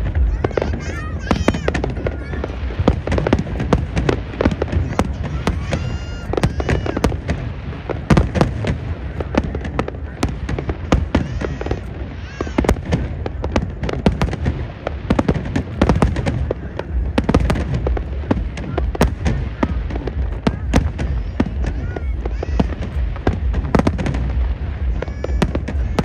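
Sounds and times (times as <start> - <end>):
fireworks bangs and crackles: 0.0 - 26.0
low rumble: 0.0 - 26.0.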